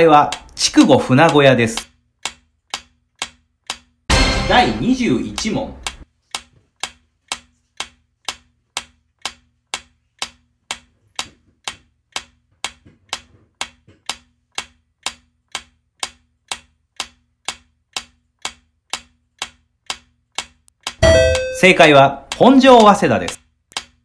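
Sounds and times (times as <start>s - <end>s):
clock ticking: 0.0s - 24.0s.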